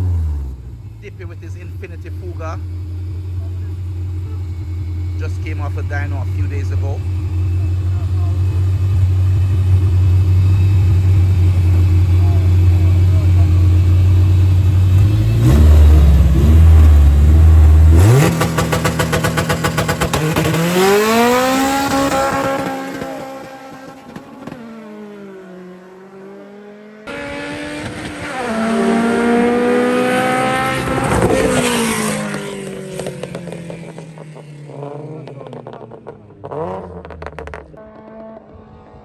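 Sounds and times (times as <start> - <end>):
car accelerating away: 0.0 - 39.0
drag car engines revving: 0.0 - 39.0.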